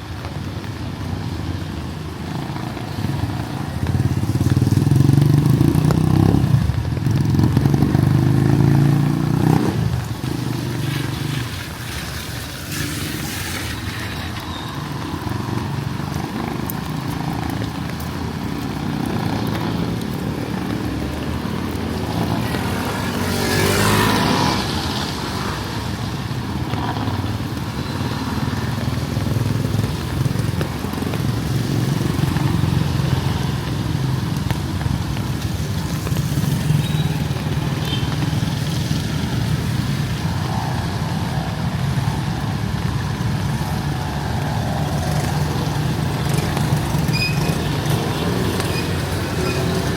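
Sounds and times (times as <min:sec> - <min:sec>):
vehicle engines running: 0:00.0 - 0:49.9.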